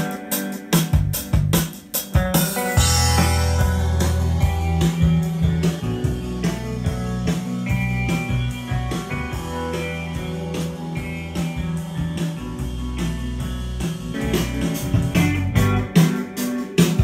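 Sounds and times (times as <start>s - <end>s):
guitar music: 0.0s - 17.0s
steady drum beat: 0.0s - 17.0s.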